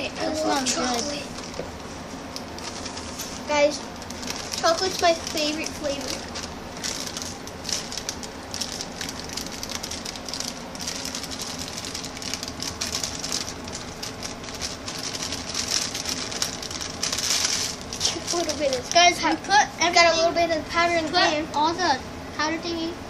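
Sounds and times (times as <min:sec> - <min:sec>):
plastic bag crinkling: 0:00.4 - 0:19.4.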